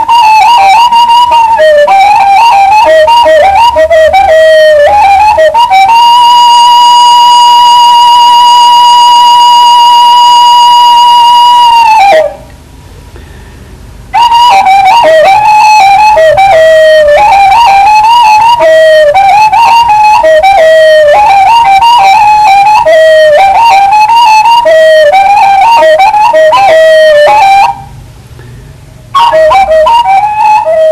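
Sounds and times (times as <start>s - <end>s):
flute-like wind instrument melody: 0.0s - 12.6s, 14.1s - 28.0s, 29.1s - 30.9s.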